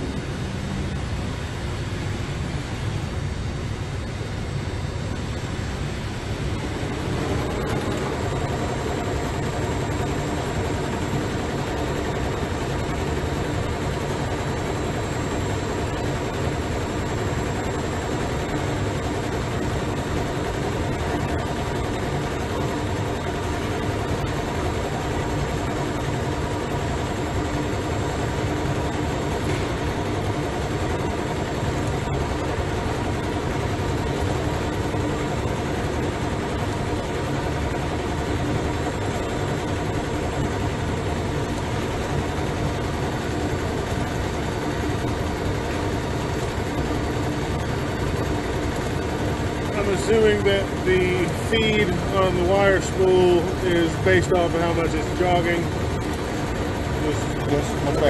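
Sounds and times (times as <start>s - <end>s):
sewing machine mechanical hum: 3.9s - 58.0s.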